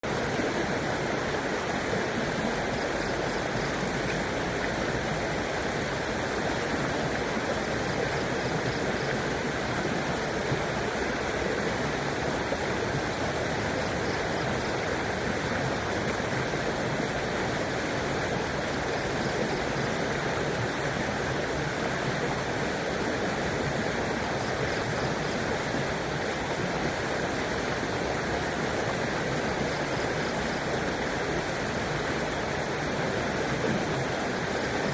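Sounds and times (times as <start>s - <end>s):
river water rushing over stones: 0.0s - 34.9s.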